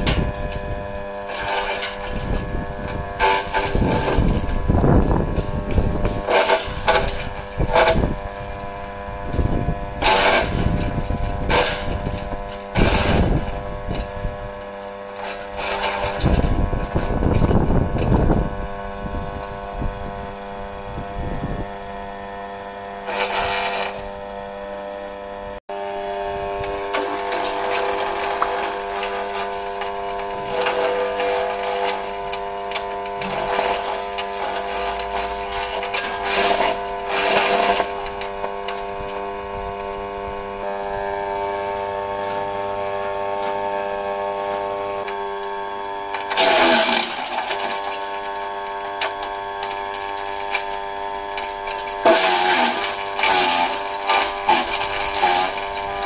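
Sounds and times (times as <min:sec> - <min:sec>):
branches crunching in chipper: 0:00.0 - 0:21.3, 0:22.8 - 0:56.0
wood chipper motor whining: 0:00.0 - 0:56.0.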